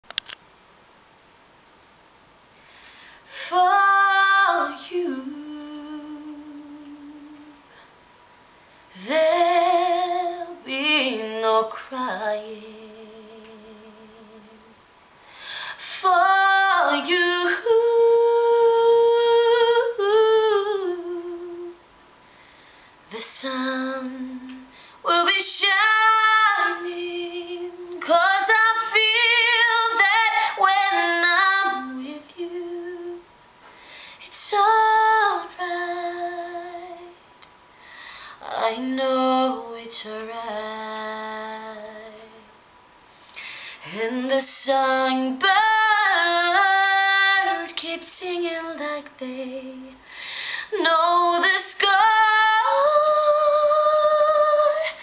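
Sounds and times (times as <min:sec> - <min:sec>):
woman singing with vibrato: 0:03.3 - 0:07.8, 0:08.9 - 0:14.8, 0:15.7 - 0:21.8, 0:23.1 - 0:33.3, 0:34.2 - 0:37.3, 0:38.3 - 0:42.6, 0:43.5 - 0:55.0.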